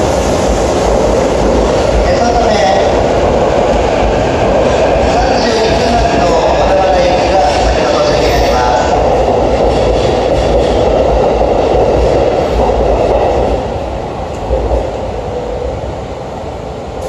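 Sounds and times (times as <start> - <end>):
electric train rumbling and hissing: 0.0 - 17.0.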